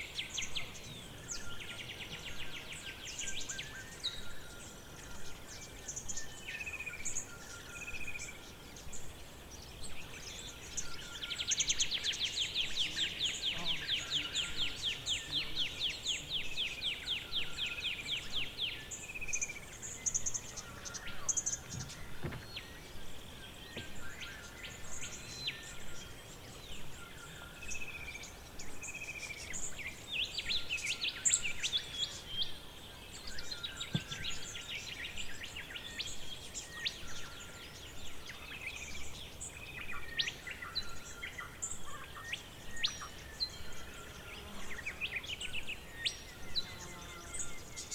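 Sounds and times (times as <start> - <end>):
birds singing and calling: 0.0 - 47.9.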